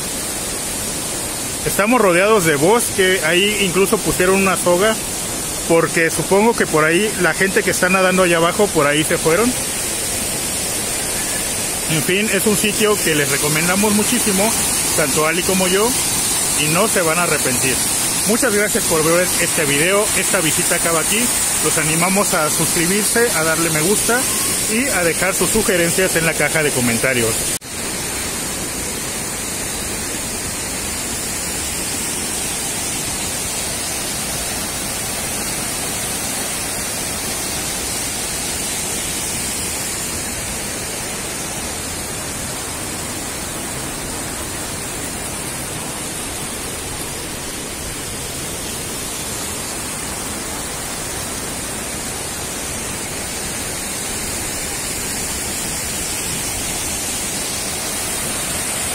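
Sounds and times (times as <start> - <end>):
stream and waterfall rushing: 0.0 - 58.9.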